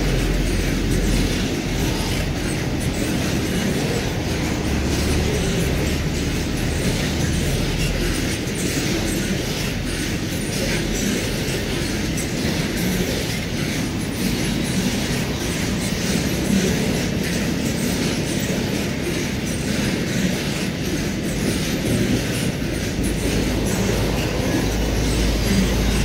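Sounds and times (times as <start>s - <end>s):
clacks over rail joints: 0.0s - 26.0s
steel wheels rumbling on rails: 0.0s - 26.0s.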